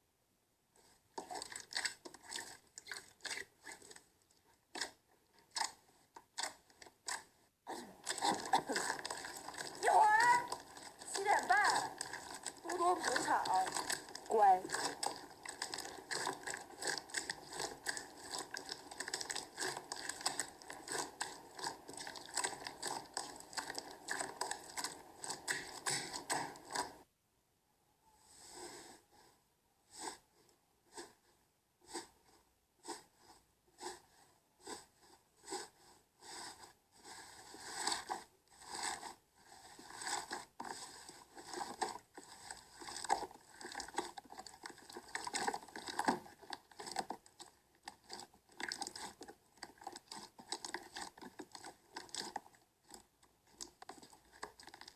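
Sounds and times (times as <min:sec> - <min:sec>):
slime squeezed by hand: 0:01.1 - 0:04.1, 0:04.7 - 0:27.0, 0:33.8 - 0:54.9.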